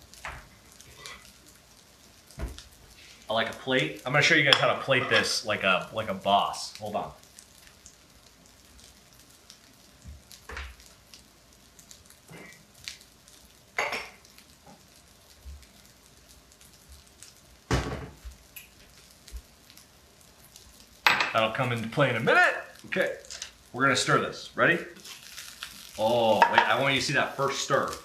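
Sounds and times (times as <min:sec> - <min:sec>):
rice sizzling in oil: 0:00.0 - 0:28.0.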